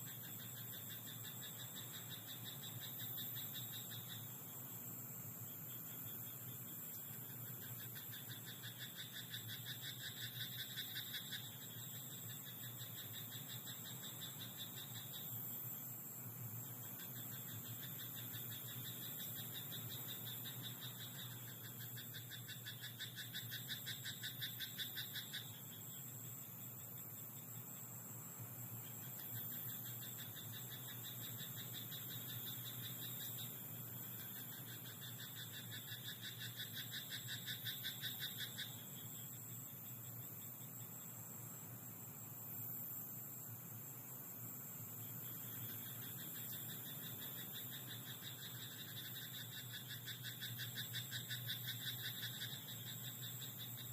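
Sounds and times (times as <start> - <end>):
frogs croaking in chorus: 0.0 - 53.9.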